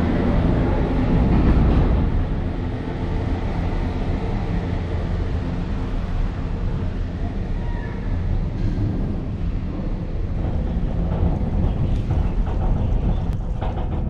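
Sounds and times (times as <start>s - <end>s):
cable car rumbling and rushing: 0.0s - 14.0s.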